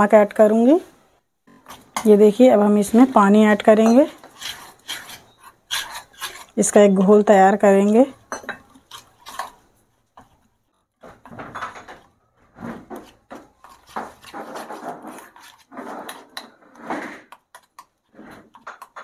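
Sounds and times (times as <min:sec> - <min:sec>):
spoon stirring batter in bowl: 0:01.4 - 0:12.1, 0:12.7 - 0:19.0.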